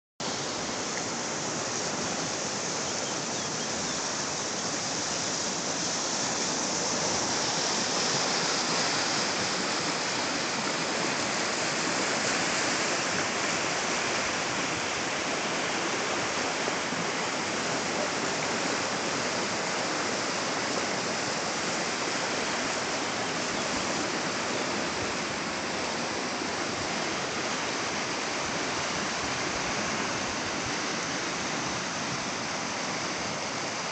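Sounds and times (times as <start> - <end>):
river rushing over rocks: 0.2 - 33.9.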